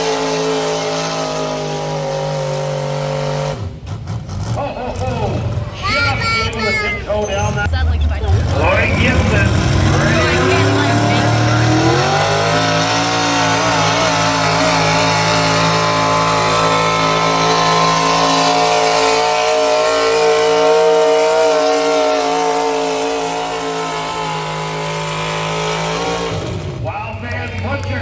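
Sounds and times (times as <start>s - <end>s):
engine running at high revs: 0.0s - 28.0s.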